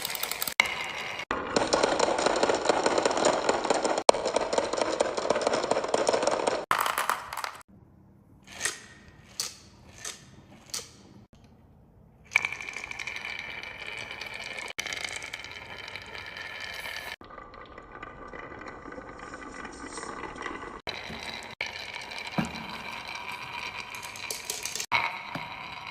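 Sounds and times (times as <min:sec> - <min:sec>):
marbles clacking: 0:00.0 - 0:07.7, 0:12.3 - 0:25.9
marbles rolling on wooden track: 0:00.0 - 0:07.7, 0:12.3 - 0:25.9.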